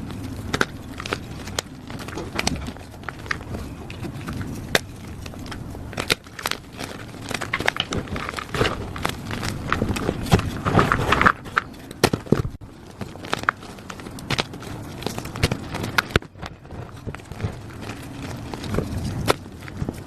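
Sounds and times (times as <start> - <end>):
chalk crunching and crumbling: 0.0 - 20.0.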